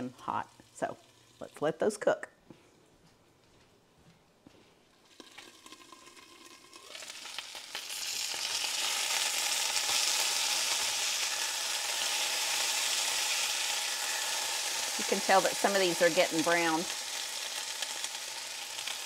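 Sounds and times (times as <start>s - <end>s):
potatoes sizzling in oil: 0.0s - 2.1s, 5.0s - 19.0s.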